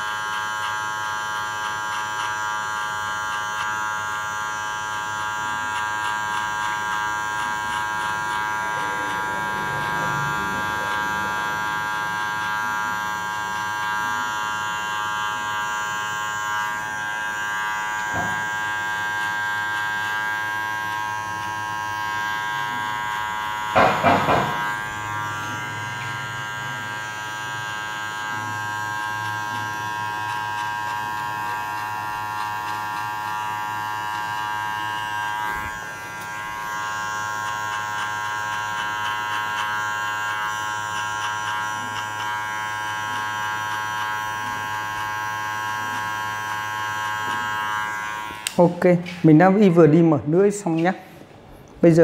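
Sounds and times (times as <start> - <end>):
electric hair clippers buzzing: 0.0 - 52.0.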